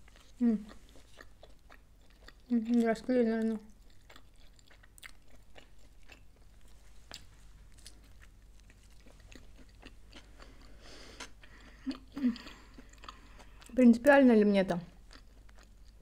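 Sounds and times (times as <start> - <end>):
close chewing mouth sounds: 0.0 - 16.0.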